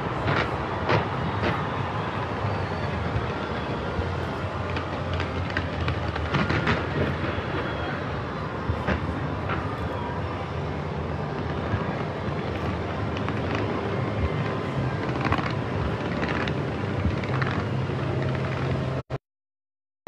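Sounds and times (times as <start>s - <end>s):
crackling firework pops: 0.0s - 10.4s, 11.3s - 18.9s
deep rumble of firework bursts: 0.0s - 19.0s.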